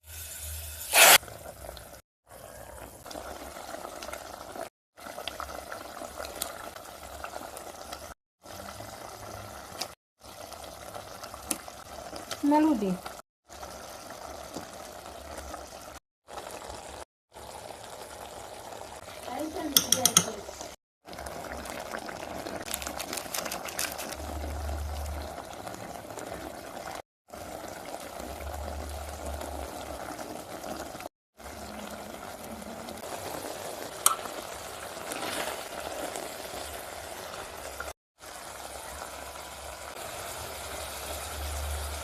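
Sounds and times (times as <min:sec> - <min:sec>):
chicken sizzling in a pan: 0:02.3 - 0:42.0.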